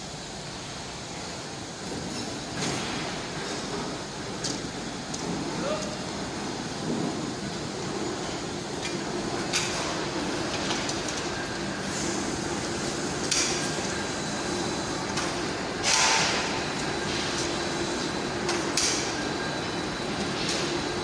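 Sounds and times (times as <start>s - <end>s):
industrial machinery drone: 0.0s - 21.0s.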